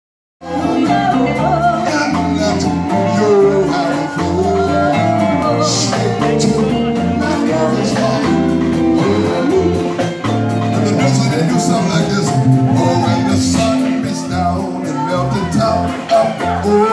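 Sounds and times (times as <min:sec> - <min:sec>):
live band music: 0:00.4 - 0:16.9
vocals sung over pa: 0:00.4 - 0:16.9.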